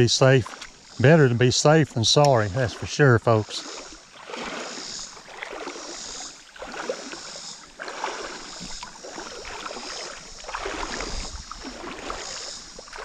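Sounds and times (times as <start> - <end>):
footsteps wading through water: 0.0 - 13.0.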